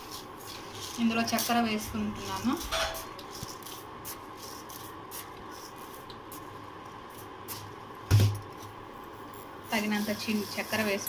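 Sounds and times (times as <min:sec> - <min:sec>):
tea boiling in a saucepan: 0:00.0 - 0:11.0.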